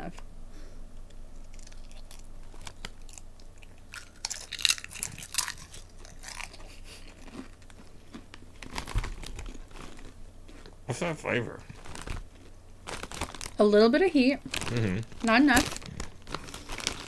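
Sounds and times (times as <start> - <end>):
potato chips being chewed: 1.3 - 10.8, 11.7 - 13.6, 14.5 - 17.0.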